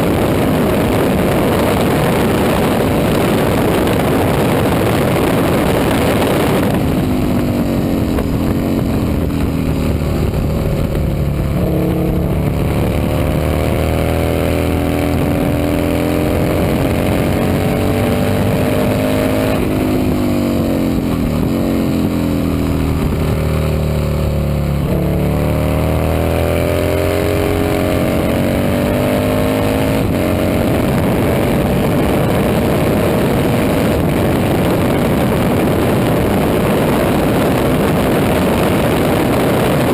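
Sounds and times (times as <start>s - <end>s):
loud rushing noise: 0.0s - 39.9s
racing motorcycle engine revving: 0.0s - 39.9s.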